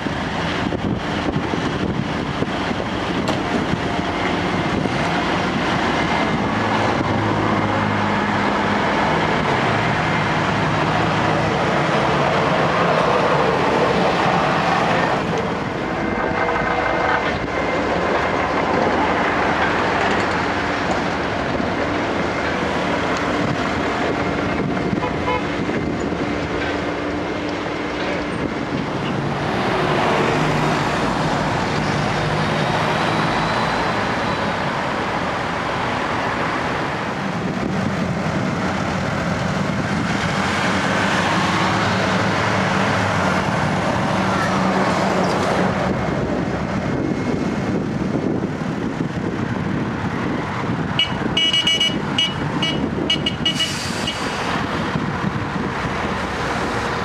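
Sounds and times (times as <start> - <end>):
heavy diesel machines running: 0.0 - 57.0.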